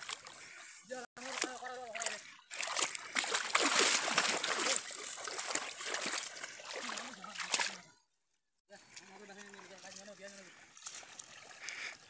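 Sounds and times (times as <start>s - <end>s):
water splashing and sloshing: 0.0s - 8.0s, 8.8s - 12.0s.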